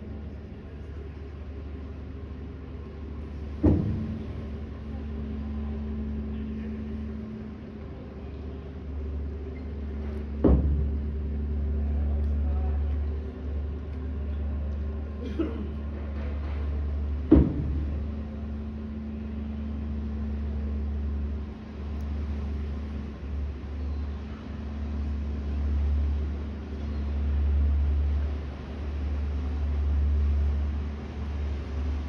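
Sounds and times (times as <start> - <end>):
faint ferry engine drone: 0.0 - 32.0.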